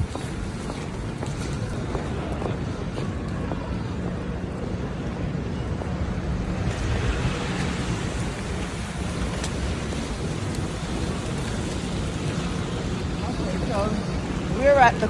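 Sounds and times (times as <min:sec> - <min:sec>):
city street noise: 0:00.0 - 0:15.0
wind rumbling on microphone: 0:00.0 - 0:15.0.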